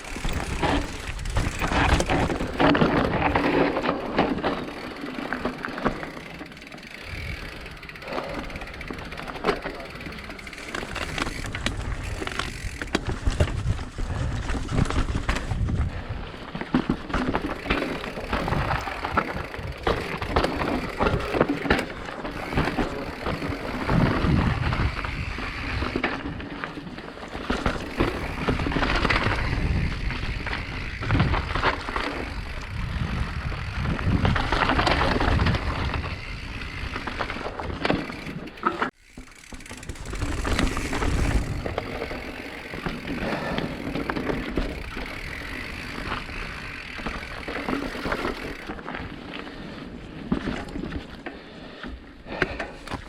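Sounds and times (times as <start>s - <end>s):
bike rattling on rough trail: 0.0s - 53.0s.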